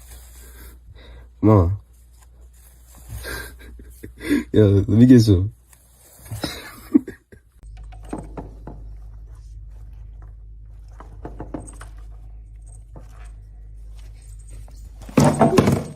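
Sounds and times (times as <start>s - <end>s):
low electrical hum: 0.0s - 15.9s.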